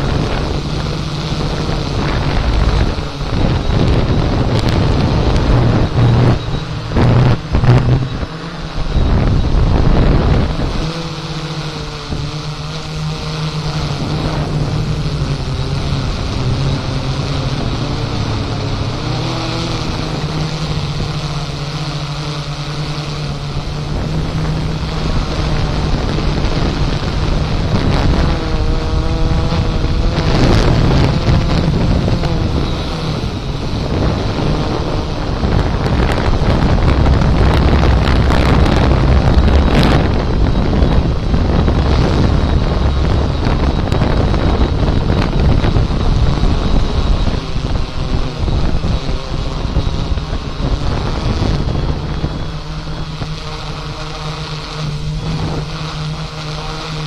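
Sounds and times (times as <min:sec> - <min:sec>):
drone motors humming: 0:00.0 - 0:57.0
wind buffeting microphone: 0:00.0 - 0:57.0.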